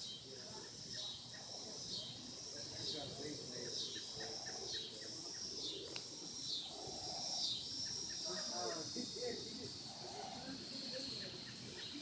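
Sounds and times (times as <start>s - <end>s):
faint quick insect chirps: 0.0s - 12.0s
high insect buzz: 0.0s - 12.0s.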